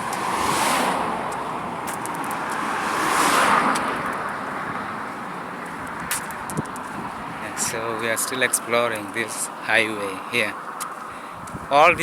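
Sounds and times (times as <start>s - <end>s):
vehicles passing: 0.0s - 12.0s.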